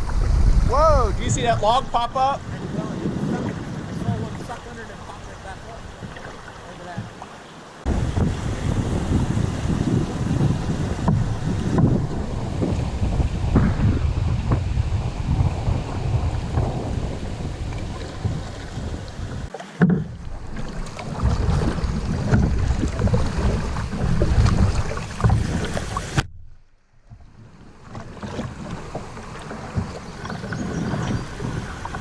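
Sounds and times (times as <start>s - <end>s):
wind buffeting microphone: 0.0s - 7.2s, 7.8s - 26.2s, 27.4s - 32.0s
water rushing and splashing: 0.0s - 26.3s, 26.9s - 32.0s.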